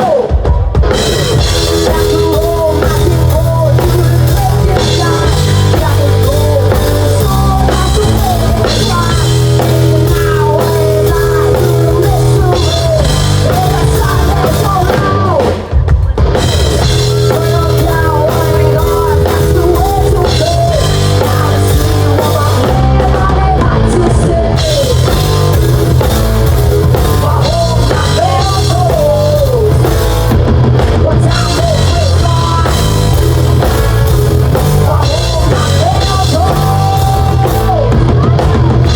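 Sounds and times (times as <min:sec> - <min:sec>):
bass guitar: 0:00.0 - 0:38.9
drum kit: 0:00.0 - 0:38.9
woman singing: 0:01.4 - 0:25.6, 0:27.0 - 0:30.0, 0:30.8 - 0:33.2, 0:34.7 - 0:38.9.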